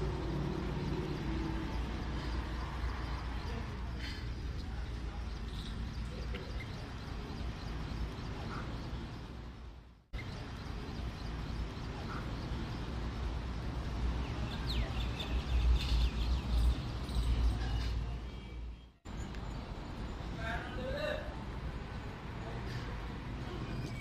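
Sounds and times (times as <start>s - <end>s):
birds calling: 0.0s - 23.0s
low outdoor rumble: 0.0s - 24.0s.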